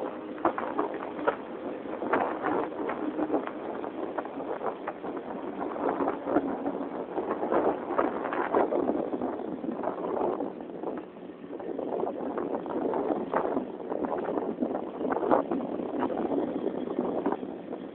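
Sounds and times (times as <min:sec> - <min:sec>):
irregular choppy noise: 0:00.0 - 0:17.8
boat engine racing: 0:00.0 - 0:17.9.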